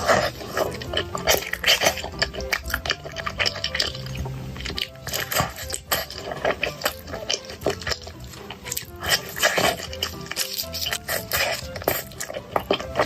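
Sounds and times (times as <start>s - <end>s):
background music: 0.0s - 13.0s
chewing and mouth clicks: 0.0s - 13.0s.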